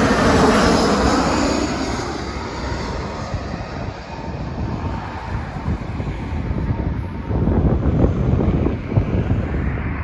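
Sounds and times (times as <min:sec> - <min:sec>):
airliner jet engines passing: 0:00.0 - 0:10.0.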